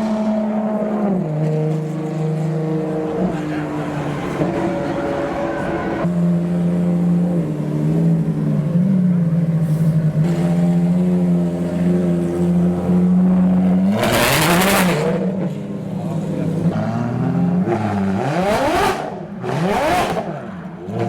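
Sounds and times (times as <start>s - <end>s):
car engine running and revving: 0.0s - 21.0s.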